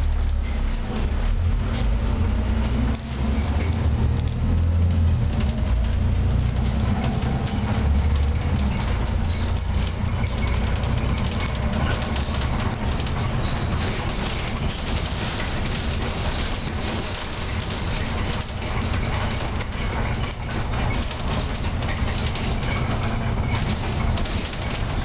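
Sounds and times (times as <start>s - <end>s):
bus engine droning: 0.0s - 25.0s
body rattles and clicks: 0.2s - 25.0s.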